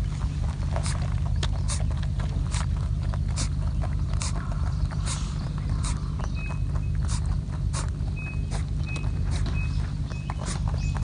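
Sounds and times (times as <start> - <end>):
low rumble: 0.0 - 11.0
rabbit sneezing: 1.6 - 10.9.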